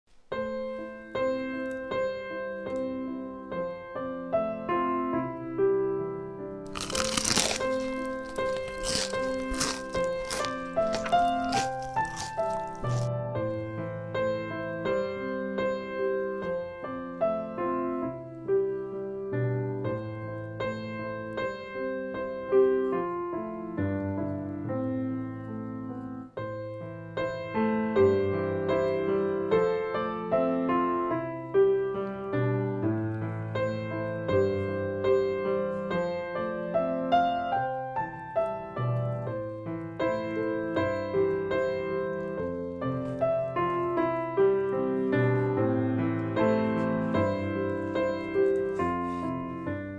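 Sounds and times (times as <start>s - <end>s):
piano music: 0.3s - 49.9s.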